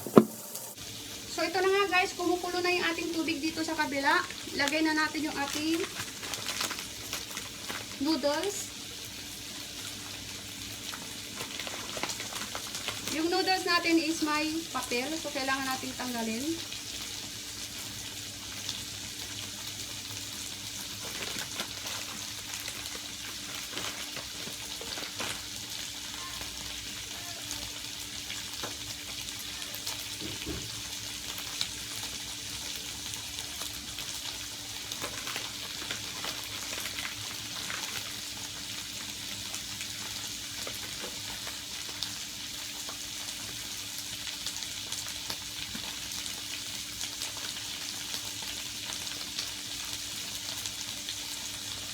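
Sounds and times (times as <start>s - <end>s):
oil sizzling in a pan: 0.0s - 51.9s.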